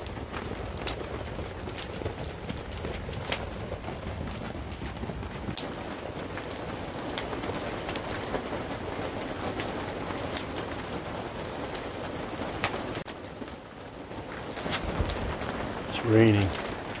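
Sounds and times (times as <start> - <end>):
campfire crackling and popping: 0.0 - 17.0
rain on canvas: 0.0 - 17.0.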